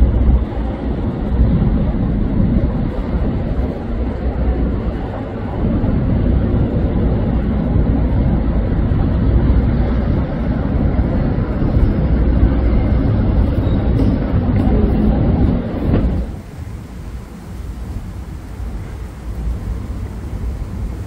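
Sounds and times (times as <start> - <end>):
loud low rumble: 0.0 - 16.9.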